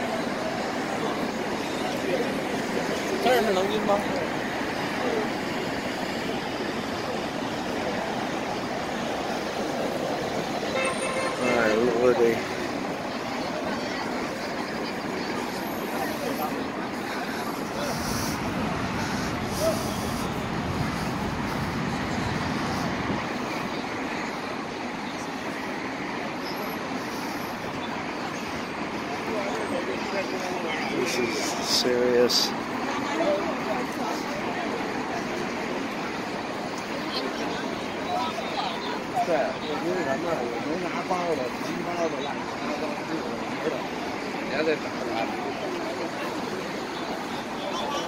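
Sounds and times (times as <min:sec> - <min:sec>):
crowd of people: 0:00.0 - 0:48.0
faint voices of passers-by: 0:00.0 - 0:48.0
road traffic noise: 0:00.0 - 0:48.0.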